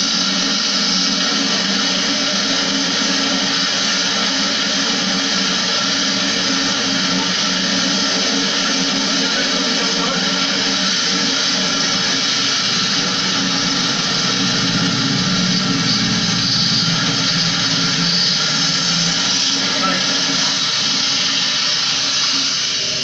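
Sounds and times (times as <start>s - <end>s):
pressure washer spraying: 0.0s - 23.0s.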